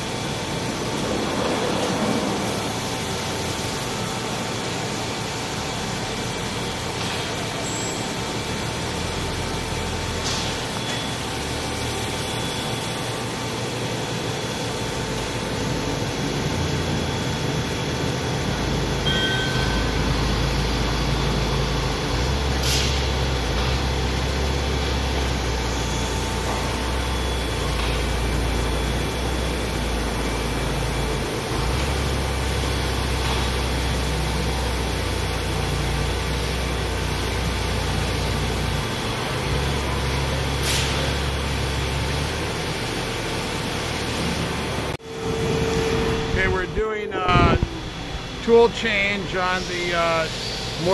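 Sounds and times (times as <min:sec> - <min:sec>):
machining center hum: 0:00.0 - 0:50.9.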